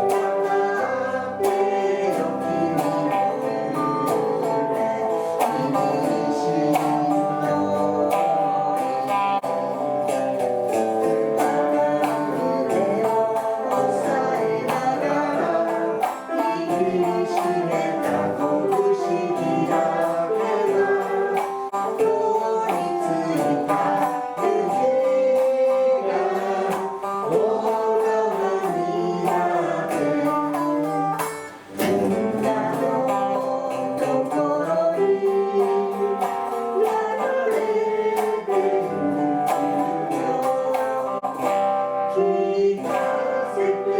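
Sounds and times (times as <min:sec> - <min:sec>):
band music with guitar: 0:00.0 - 0:43.9.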